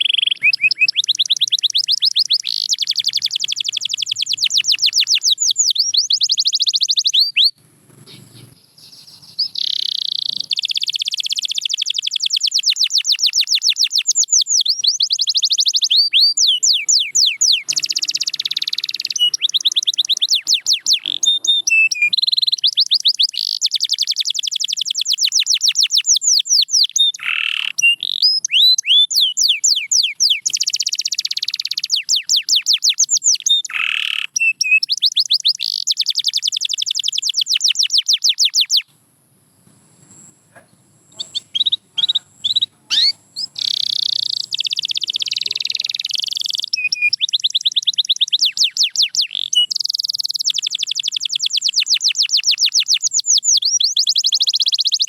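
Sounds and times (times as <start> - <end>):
canary singing trills: 0.0 - 38.9, 40.1 - 55.0.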